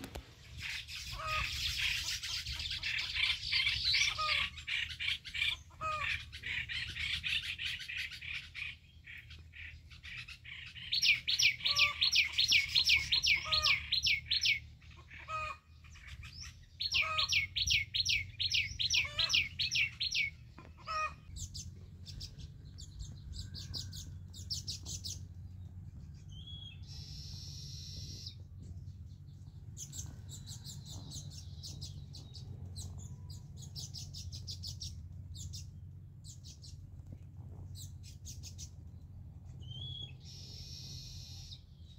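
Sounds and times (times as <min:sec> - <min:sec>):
birds alarm-calling chirps: 0:00.0 - 0:41.9.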